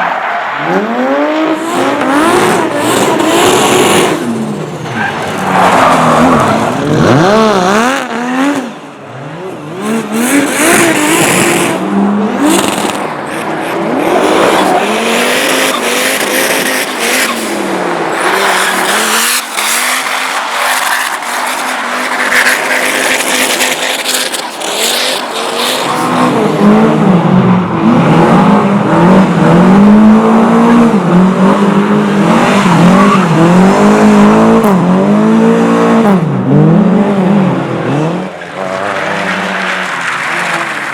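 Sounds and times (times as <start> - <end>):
race car engines revving: 0.0 - 40.9.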